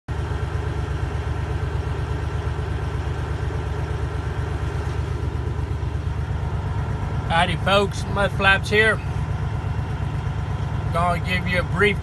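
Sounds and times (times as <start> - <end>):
truck diesel engine running: 0.1 - 12.0.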